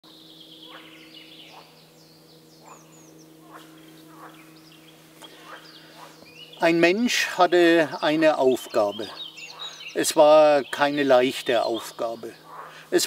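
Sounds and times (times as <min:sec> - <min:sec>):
birds singing: 0:00.0 - 0:13.0
faint low hum: 0:00.0 - 0:13.0.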